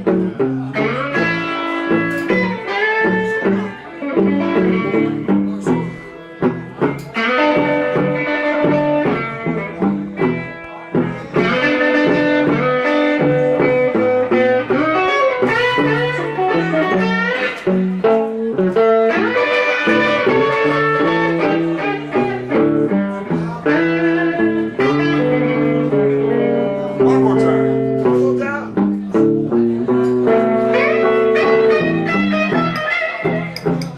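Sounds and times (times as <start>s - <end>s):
electric guitar lead with bent notes: 0.0s - 33.9s.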